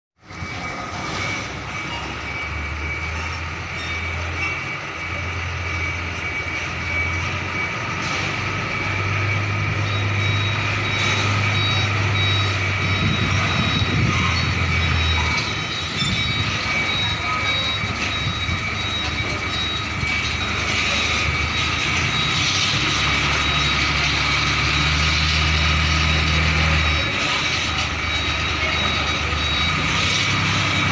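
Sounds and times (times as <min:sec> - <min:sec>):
diesel truck engine drone: 0:00.2 - 0:30.9
high-pitched warning beeper: 0:00.2 - 0:30.9.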